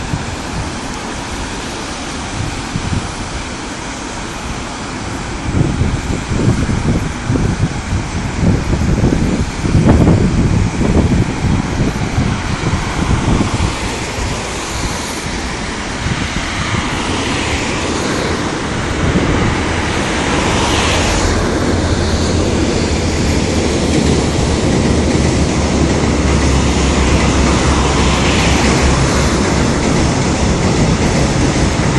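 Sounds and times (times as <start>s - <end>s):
gusty storm wind: 0.0s - 31.9s
rumble of passing vehicles: 5.4s - 31.9s.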